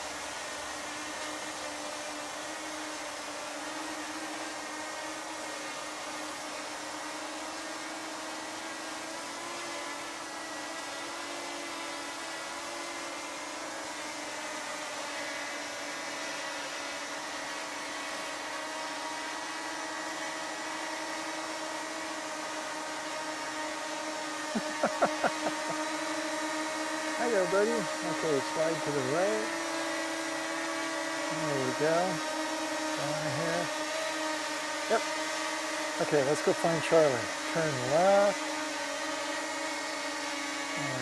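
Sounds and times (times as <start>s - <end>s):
drone propellers whining: 0.2s - 41.0s.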